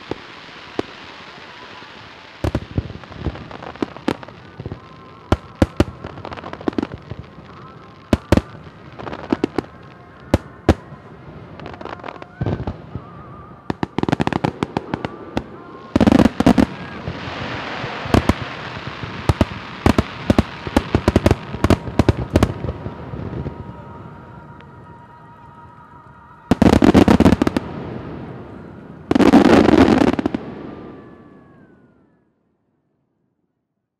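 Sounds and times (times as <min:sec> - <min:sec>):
fireworks crackling: 0:00.0 - 0:31.7
fireworks bangs: 0:00.0 - 0:32.0.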